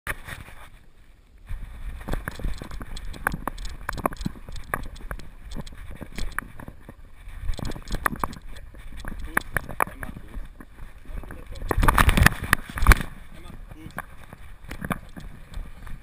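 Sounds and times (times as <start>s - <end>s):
camera knocking and rubbing: 1.9s - 16.0s.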